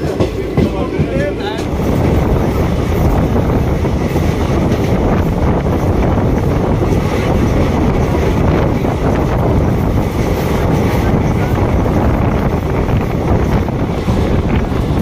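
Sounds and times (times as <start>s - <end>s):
train running noise: 0.0s - 15.0s
wind rushing over microphone: 1.0s - 15.0s.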